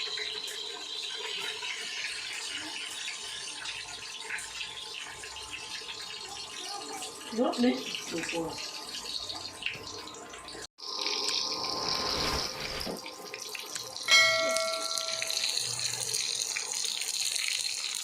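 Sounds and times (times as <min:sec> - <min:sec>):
tap water running: 0:00.0 - 0:18.0.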